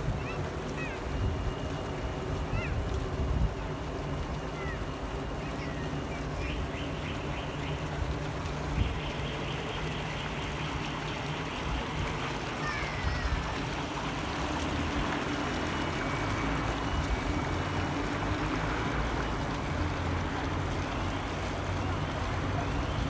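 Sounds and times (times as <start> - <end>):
fountain water splashing into pool: 0.0 - 23.0.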